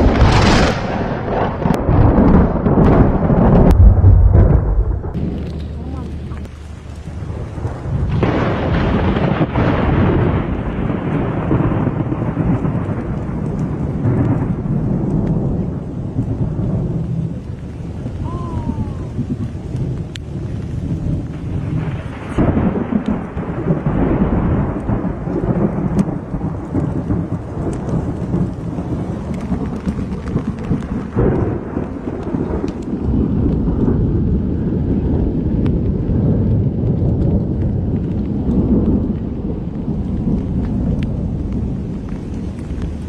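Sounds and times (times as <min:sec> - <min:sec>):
steady rain: 0:00.0 - 0:43.0
thunder crack and rumble: 0:00.0 - 0:43.0.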